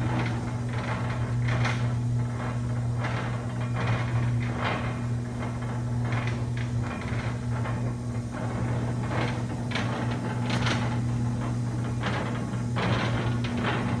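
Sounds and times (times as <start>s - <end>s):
stretch wrapper electric hum: 0.0s - 14.0s.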